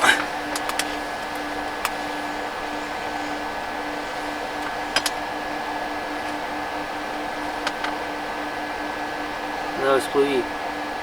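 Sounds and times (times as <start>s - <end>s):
small fan motor whirring: 0.0s - 11.0s.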